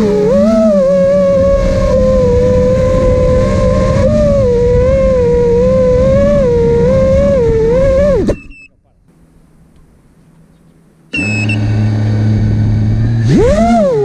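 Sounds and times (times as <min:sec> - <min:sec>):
drone motors whining: 0:00.0 - 0:08.9, 0:11.1 - 0:14.0.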